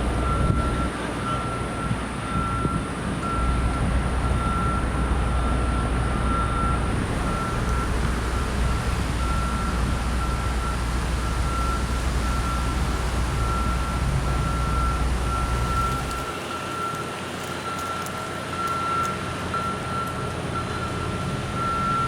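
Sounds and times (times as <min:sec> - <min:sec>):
low rumble of machinery: 0:00.0 - 0:22.0
reversing alarm beeping: 0:00.2 - 0:22.0.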